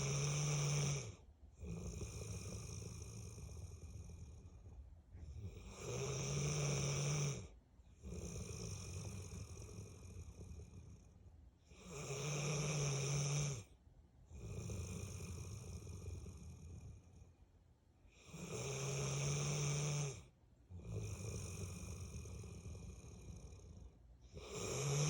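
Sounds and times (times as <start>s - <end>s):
dog snoring: 0.0s - 17.3s, 18.1s - 25.0s.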